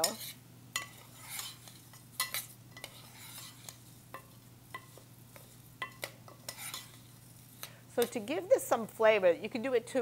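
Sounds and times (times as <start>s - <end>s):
metal spoon scraping pot: 0.0s - 8.2s.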